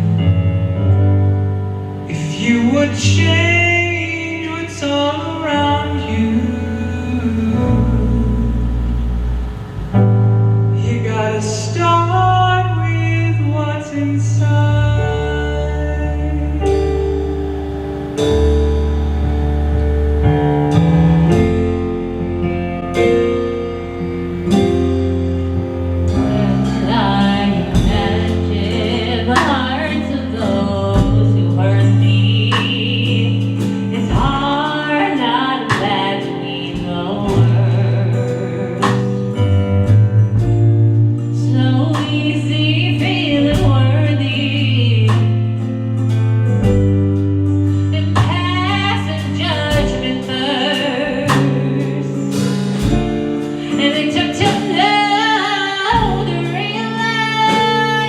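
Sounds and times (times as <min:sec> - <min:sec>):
gospel singing with instruments: 0:01.8 - 0:10.2, 0:10.8 - 0:22.3, 0:22.9 - 0:39.6, 0:47.9 - 0:58.0.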